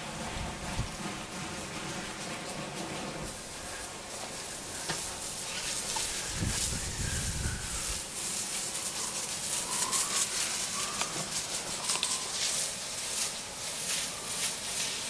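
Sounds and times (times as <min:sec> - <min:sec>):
spray gun hissing: 0:00.0 - 0:15.0.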